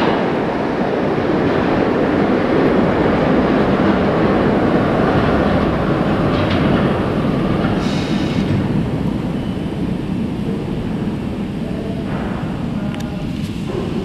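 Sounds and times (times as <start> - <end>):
subway train rumbling on rails: 0.0 - 14.0.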